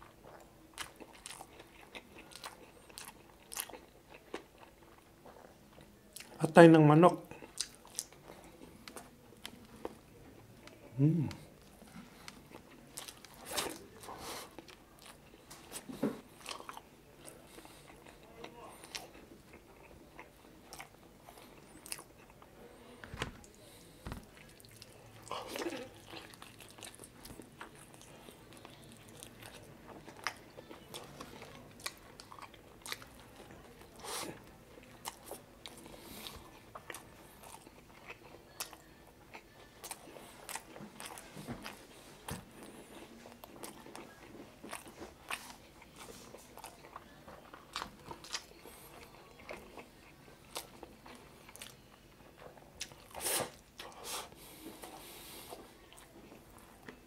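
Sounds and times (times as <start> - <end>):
person chewing with mouth clicks: 0.2 - 6.4, 10.6 - 22.4, 23.4 - 51.8, 52.4 - 57.0.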